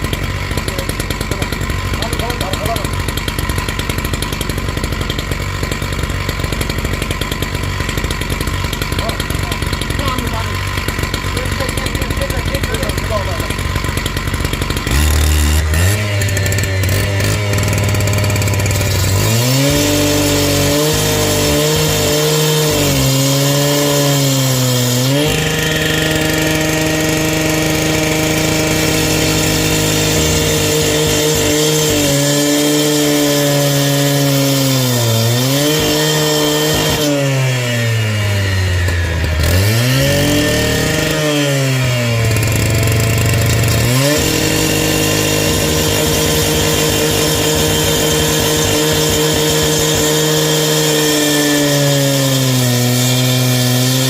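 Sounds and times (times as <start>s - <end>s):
power tool cutting under load: 0.0s - 54.0s.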